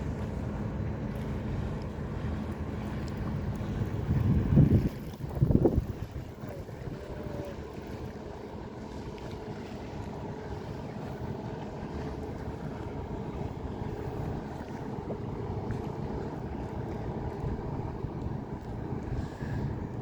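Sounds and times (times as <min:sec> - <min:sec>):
boat engine droning: 0:00.0 - 0:20.0
wind buffeting microphone: 0:01.1 - 0:20.0.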